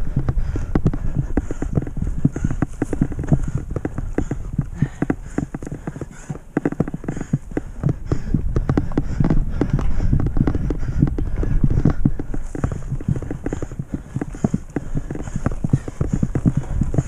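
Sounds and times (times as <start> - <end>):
mountain bike clattering over bumps: 0.0 - 17.0
rumble of tyres and wind: 0.0 - 17.0.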